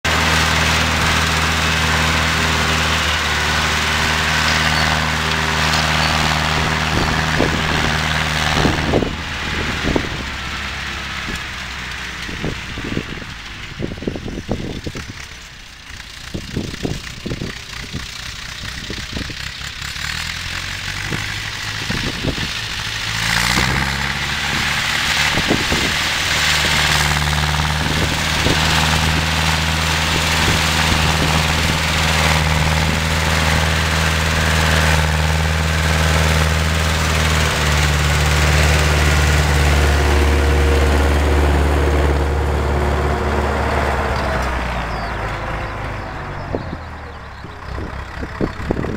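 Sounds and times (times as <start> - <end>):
tractor diesel engine under load: 0.0 - 48.9.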